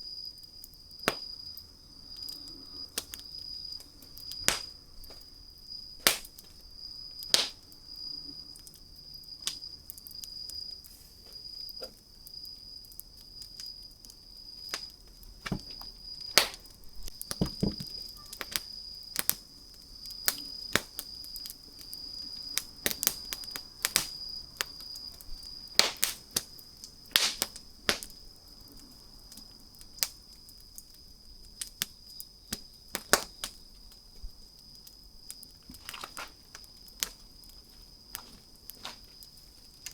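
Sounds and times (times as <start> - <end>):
campfire crackling and popping: 0.4 - 39.9.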